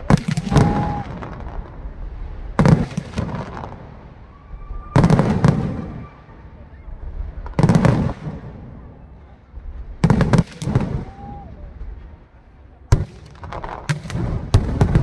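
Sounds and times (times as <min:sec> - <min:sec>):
fireworks bursting with bangs: 0:00.0 - 0:15.0
fireworks rumbling: 0:00.0 - 0:15.0.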